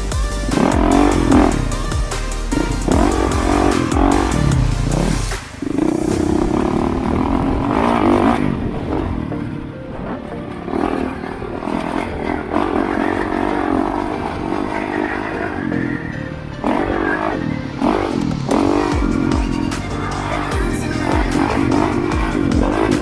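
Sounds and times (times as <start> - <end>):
motorcycle engine revving: 0.5 - 1.8, 2.5 - 9.3, 10.7 - 23.0.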